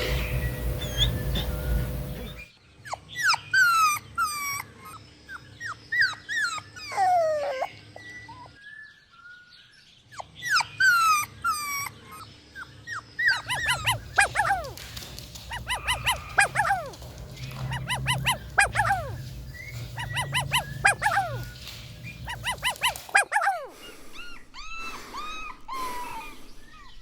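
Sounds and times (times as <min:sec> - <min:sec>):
puppies whining and yelping: 0:00.0 - 0:08.8, 0:10.2 - 0:27.0.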